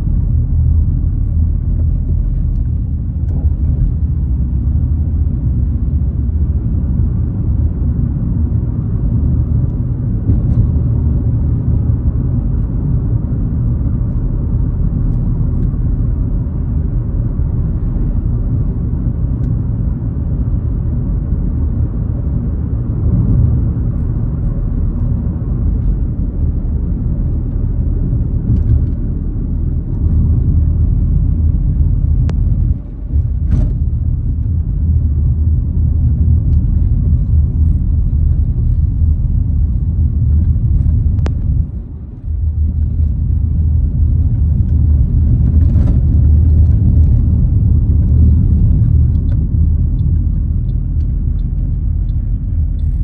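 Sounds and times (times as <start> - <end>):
car interior driving rumble: 0.0 - 53.0.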